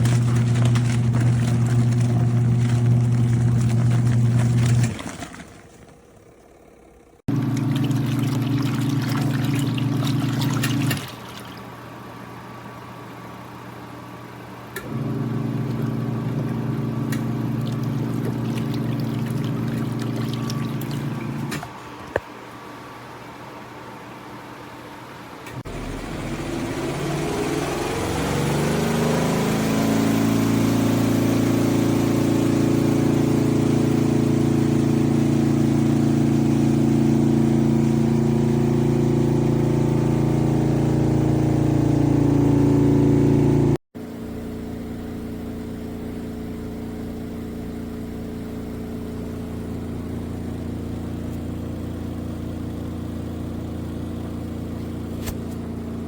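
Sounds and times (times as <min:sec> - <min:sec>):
washing machine motor spinning: 0:00.0 - 0:21.8, 0:25.5 - 0:56.0.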